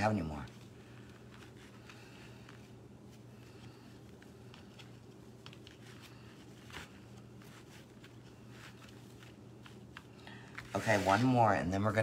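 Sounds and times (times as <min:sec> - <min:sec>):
ribbon rustling: 0:00.0 - 0:11.8
low steady hum: 0:00.0 - 0:12.0.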